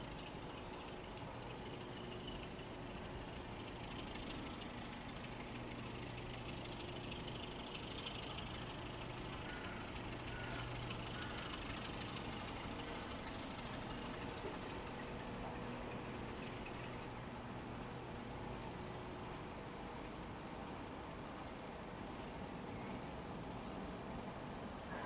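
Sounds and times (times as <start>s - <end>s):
diesel locomotive engine idling: 0.0s - 25.0s.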